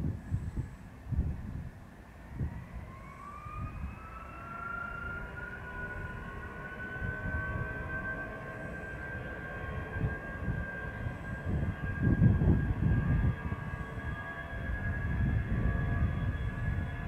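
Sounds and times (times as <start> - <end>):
wind buffeting microphone: 0.0 - 4.4, 5.0 - 17.0
jet engines spooling up: 2.0 - 17.0.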